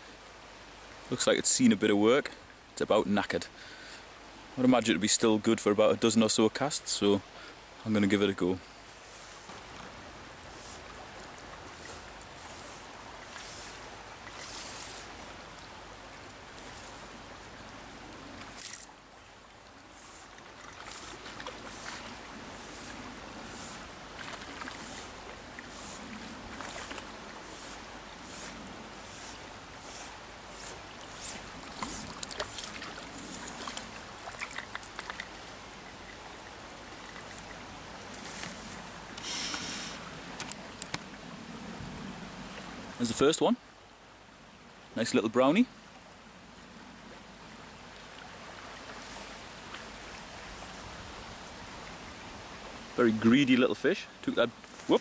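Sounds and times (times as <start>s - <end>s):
river water rushing: 6.8s - 55.0s.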